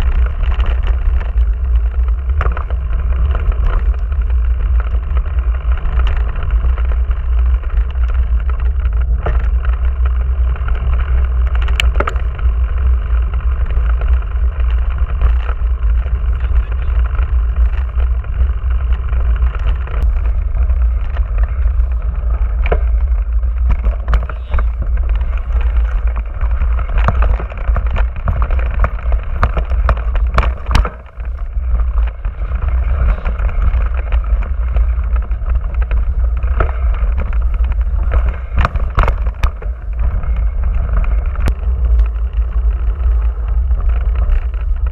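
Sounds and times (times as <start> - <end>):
wind and vibration rumble: 0.0 - 44.9.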